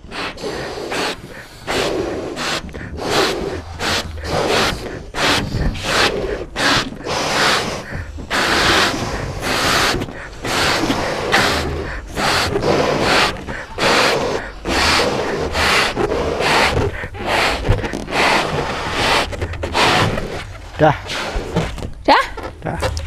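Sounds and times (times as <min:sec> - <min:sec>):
people blowing up balloons: 0:00.0 - 0:23.0.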